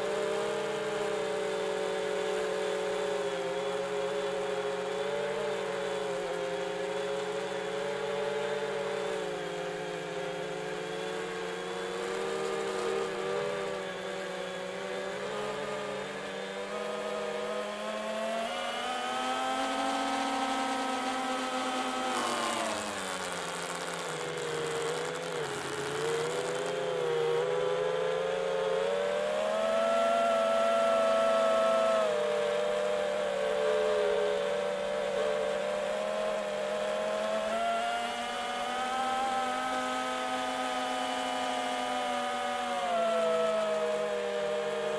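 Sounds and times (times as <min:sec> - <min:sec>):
quadcopter motors whining: 0:00.0 - 0:44.9.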